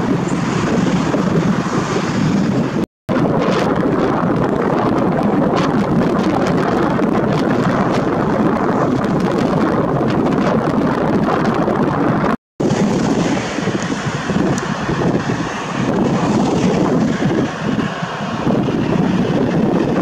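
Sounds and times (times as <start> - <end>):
jet engines rumbling: 0.0 - 20.0
wind on microphone: 0.0 - 20.0.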